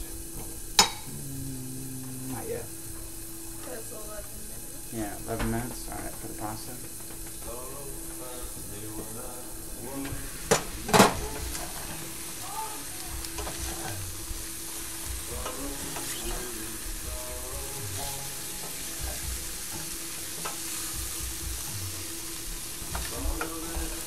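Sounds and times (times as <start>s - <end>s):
chicken sizzling in a skillet: 0.0s - 24.0s.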